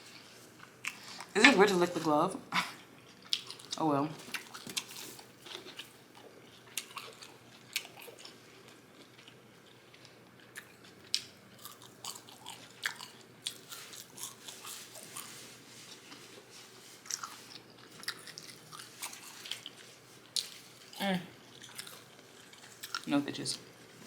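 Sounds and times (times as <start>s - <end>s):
person chewing food: 2.8s - 23.1s.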